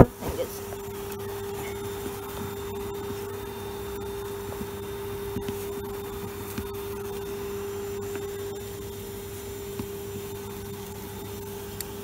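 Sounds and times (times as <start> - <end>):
vacuum motor humming: 0.0 - 12.0.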